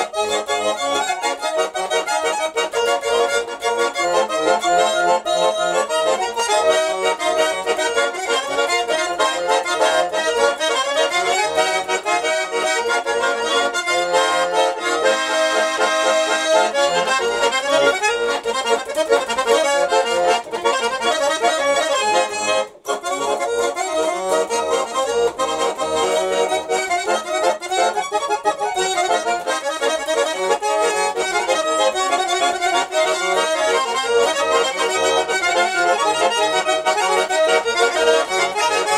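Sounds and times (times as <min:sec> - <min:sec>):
button accordion playing a tune: 0:00.0 - 0:38.9.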